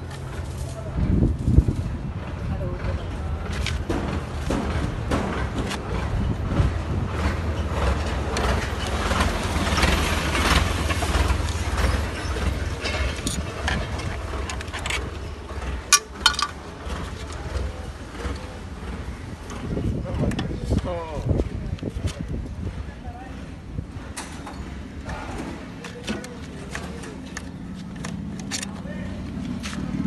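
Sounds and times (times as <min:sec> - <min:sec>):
engine running low rumble: 0:00.0 - 0:30.0.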